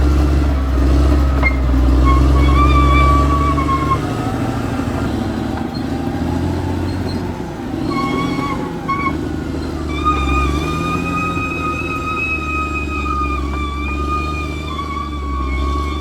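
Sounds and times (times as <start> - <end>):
bulldozer diesel engine rumbling: 0.0 - 16.0
high-pitched squeals: 1.1 - 6.0, 6.7 - 16.0.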